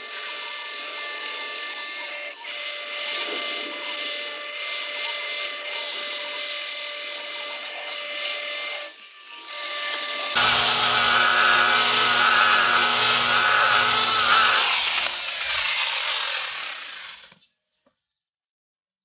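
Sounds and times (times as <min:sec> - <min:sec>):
rotary polisher motor whine: 0:00.0 - 0:17.4.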